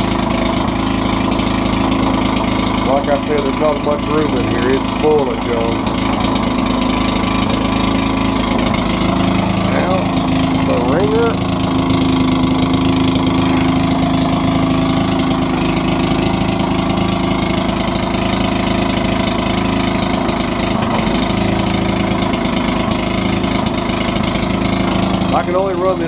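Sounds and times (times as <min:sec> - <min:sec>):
two-stroke engine running: 0:00.0 - 0:26.0.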